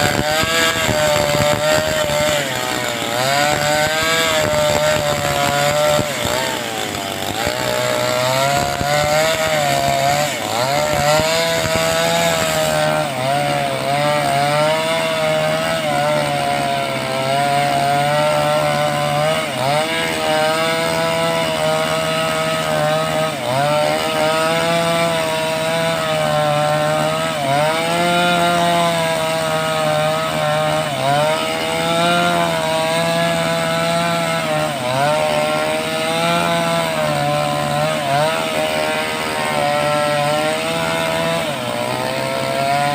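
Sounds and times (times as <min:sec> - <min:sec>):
chainsaw cutting a log: 0:00.0 - 0:42.9.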